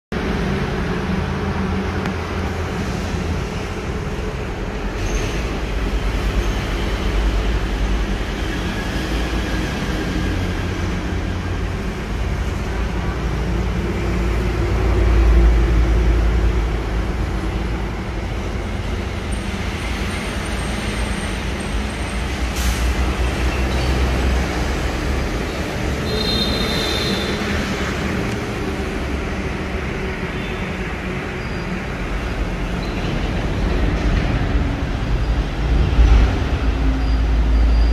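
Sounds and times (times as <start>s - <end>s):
vehicle and road rumble: 0.1s - 37.9s.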